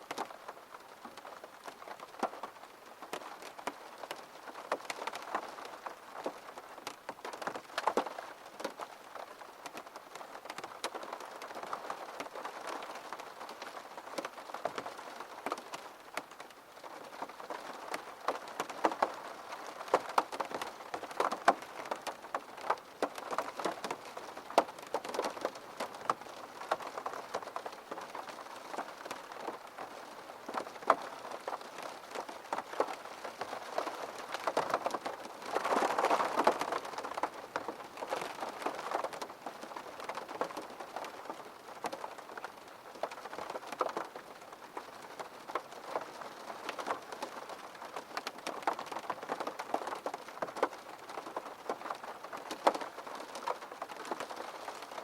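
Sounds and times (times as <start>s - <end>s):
rain falling: 0.0s - 55.0s
raindrops ticking: 0.0s - 55.0s.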